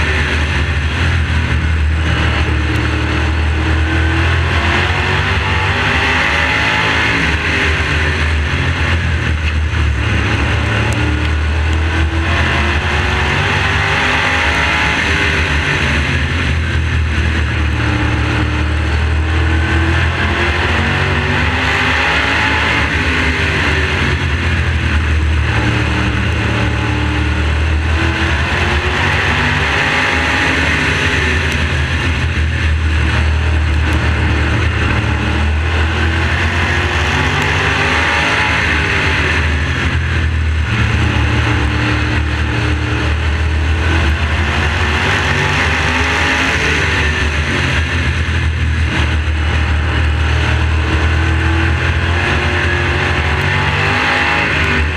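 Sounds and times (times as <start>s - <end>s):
race car engine at speed: 0.0s - 54.9s.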